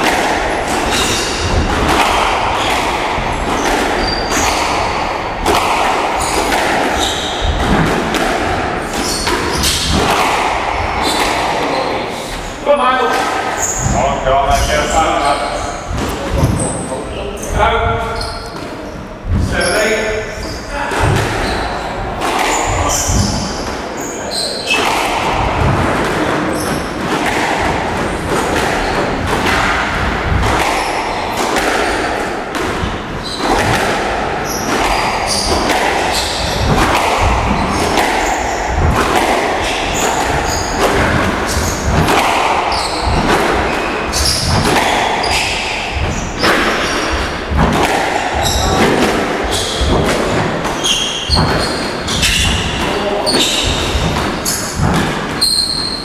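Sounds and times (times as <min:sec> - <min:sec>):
squash ball hitting rackets and walls: 0:00.0 - 0:56.0.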